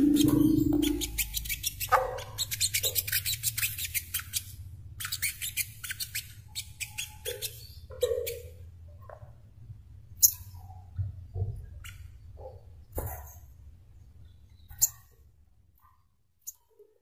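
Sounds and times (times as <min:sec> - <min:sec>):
faint low hum: 0:00.0 - 0:16.5.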